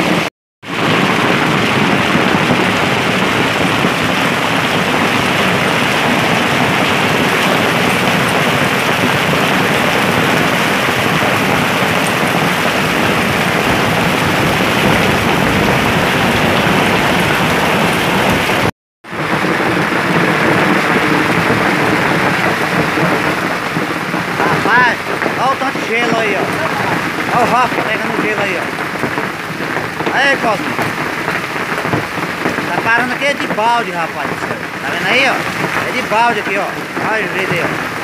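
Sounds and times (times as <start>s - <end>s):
hail and rain falling hard: 0.0s - 38.0s.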